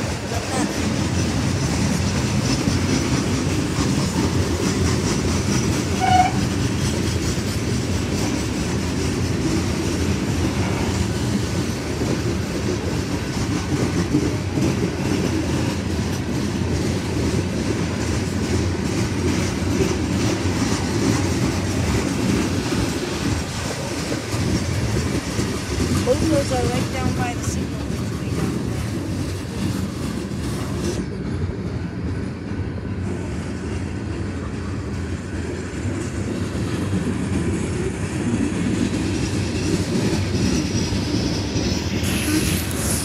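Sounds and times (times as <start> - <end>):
freight train wheels rumbling: 0.0 - 43.0.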